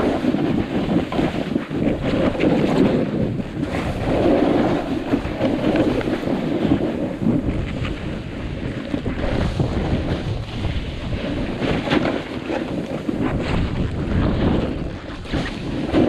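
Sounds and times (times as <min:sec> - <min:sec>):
snowboard scraping through snow: 0:00.0 - 0:16.0
wind rumble on microphone: 0:00.0 - 0:16.0.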